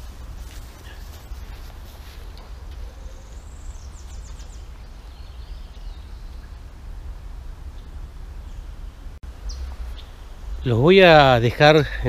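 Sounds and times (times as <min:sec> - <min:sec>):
birds calling: 0:00.0 - 0:12.0
steady low rumble: 0:00.0 - 0:12.0.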